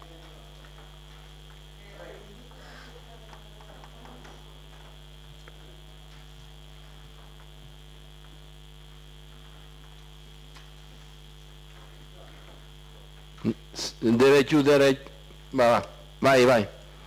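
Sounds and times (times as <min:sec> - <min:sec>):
electrical mains hum: 0:00.0 - 0:17.0
faint high whine: 0:00.0 - 0:17.0.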